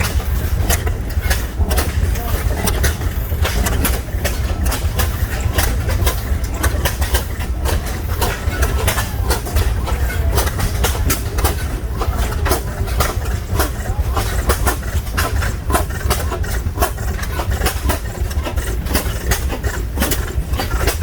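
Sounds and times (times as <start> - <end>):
single-cylinder engines running: 0.0 - 21.0.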